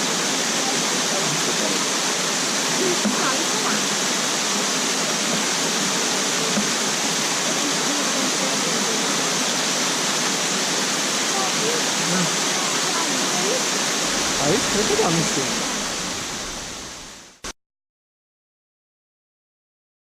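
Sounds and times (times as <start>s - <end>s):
waterfall roar: 0.0s - 17.5s.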